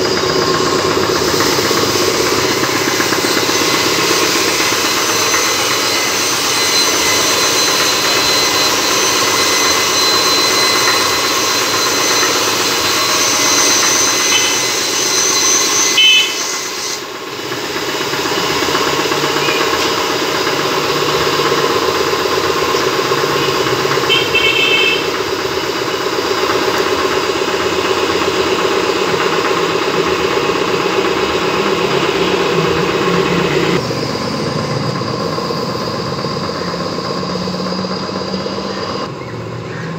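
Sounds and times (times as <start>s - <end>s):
mechanical motor drone: 0.0s - 39.9s.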